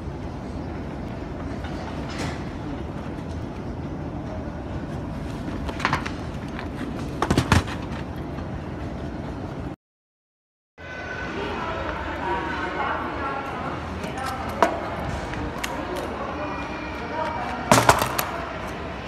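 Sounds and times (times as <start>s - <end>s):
baggage carousel rumbling: 0.0s - 9.8s, 12.9s - 19.0s.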